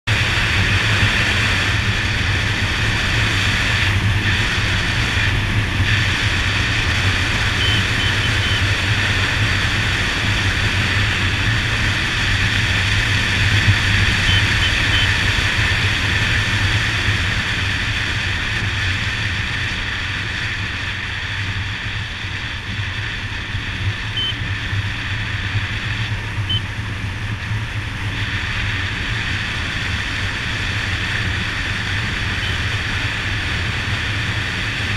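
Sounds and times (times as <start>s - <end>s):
motorcycle engine running: 0.0s - 34.9s
wind rushing over microphone: 0.1s - 34.9s.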